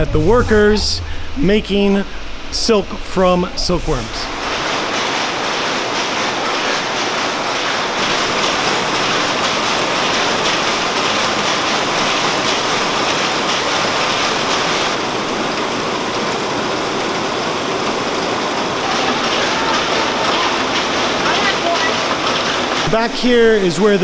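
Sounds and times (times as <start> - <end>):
silk-reeling machines running: 0.0 - 24.0.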